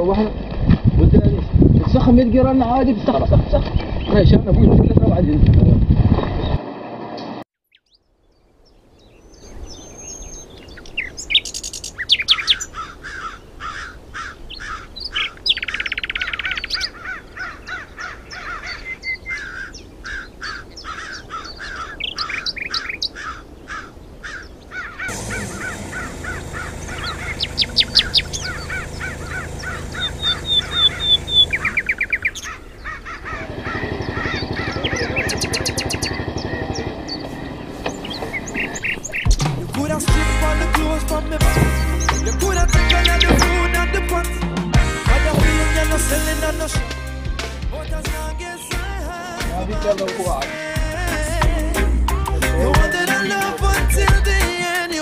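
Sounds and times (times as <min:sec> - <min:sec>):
chorus of birds calling: 0:07.7 - 0:55.0.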